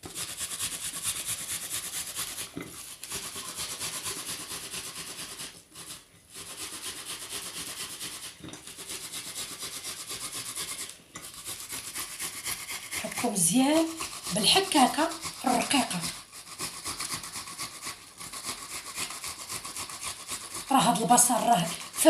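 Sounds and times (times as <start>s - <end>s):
onion rasping on metal grater: 0.0s - 22.0s.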